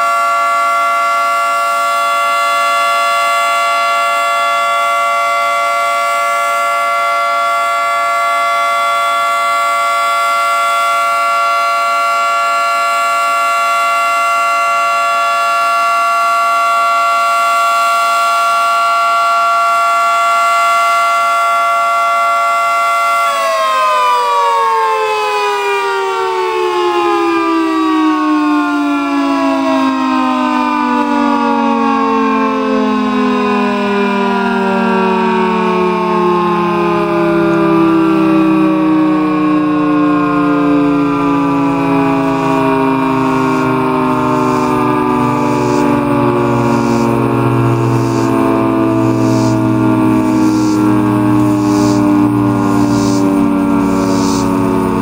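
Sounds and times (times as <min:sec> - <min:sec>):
two-tone warning siren: 0:00.0 - 0:55.0.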